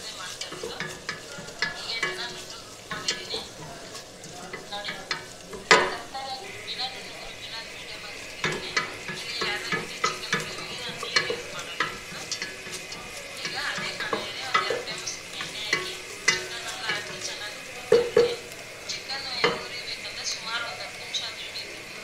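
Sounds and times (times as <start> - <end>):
spatula scraping pot: 0.0 - 21.2
onions hissing: 0.0 - 22.0.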